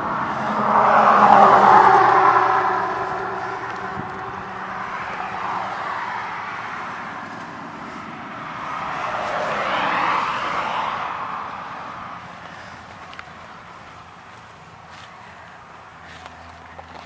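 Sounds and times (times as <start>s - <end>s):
cars passing on road: 0.0s - 17.0s.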